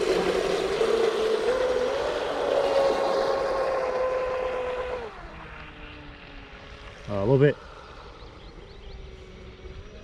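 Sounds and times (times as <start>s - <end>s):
rc boat motor whining: 0.0s - 10.0s.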